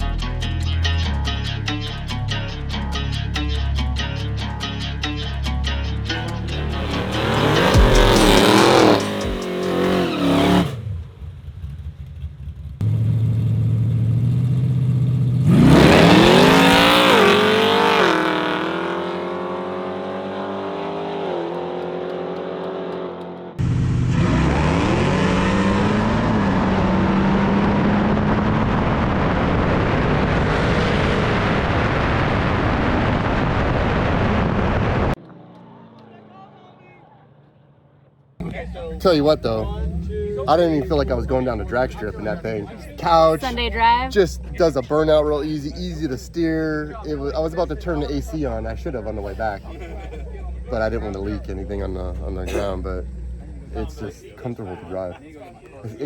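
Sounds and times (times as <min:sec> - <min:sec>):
car engine revving and accelerating: 0:06.1 - 0:36.6, 0:38.4 - 0:54.8.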